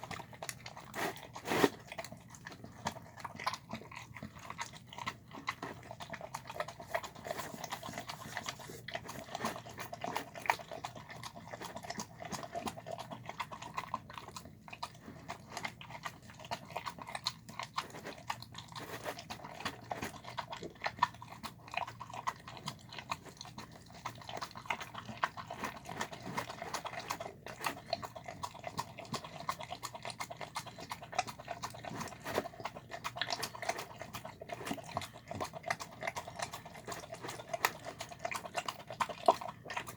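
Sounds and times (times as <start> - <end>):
dog chewing wet food: 0.0 - 39.9.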